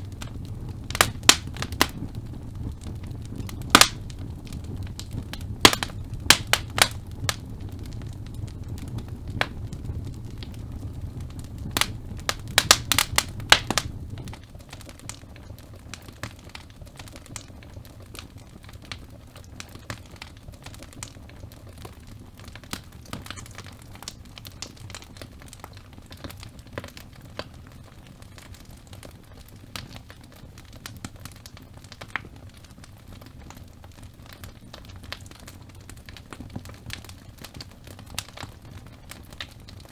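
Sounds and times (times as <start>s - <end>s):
low rumble of flame: 0.0s - 39.9s
wood crackling and popping: 0.0s - 39.9s.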